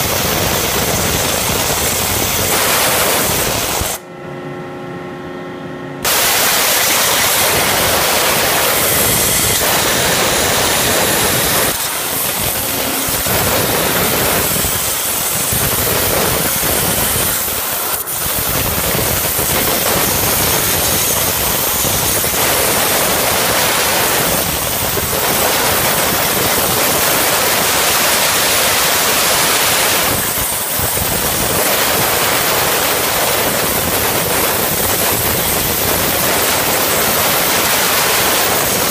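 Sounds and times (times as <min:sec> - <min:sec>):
waterjet cutting hiss: 0:00.0 - 0:04.0, 0:06.1 - 0:38.9.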